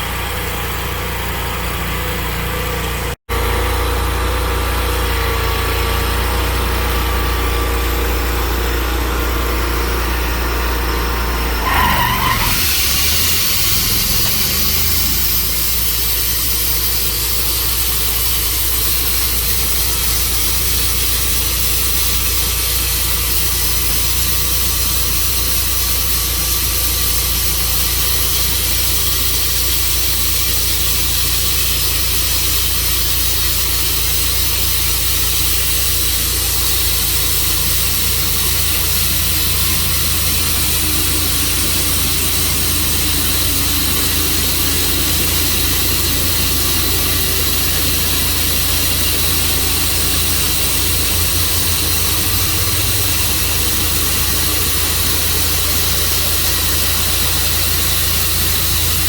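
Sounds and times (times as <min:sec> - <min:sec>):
sawmill engine running: 0:00.0 - 0:59.0
broad hissing noise: 0:11.6 - 0:59.0.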